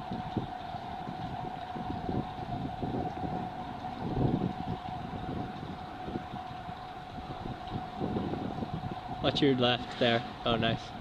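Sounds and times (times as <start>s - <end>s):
steady high-pitched hum: 0.0s - 11.0s
wind rumbling on microphone: 0.0s - 11.0s.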